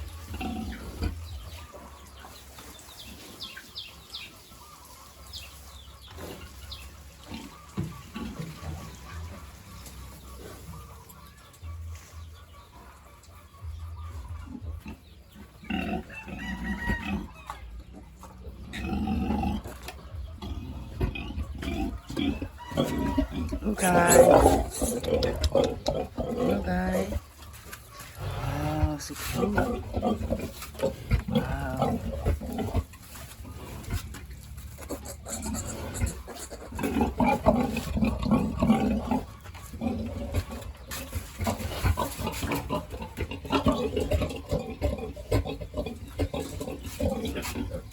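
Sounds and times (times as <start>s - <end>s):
farm animals grunting: 0.0s - 47.9s.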